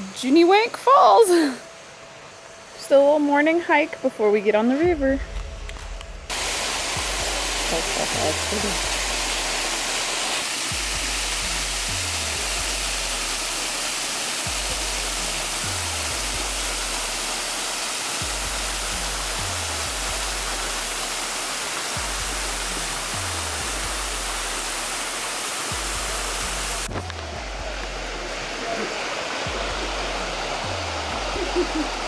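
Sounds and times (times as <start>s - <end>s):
waterfall rushing water: 0.0s - 32.0s
background music with bass: 4.8s - 32.0s.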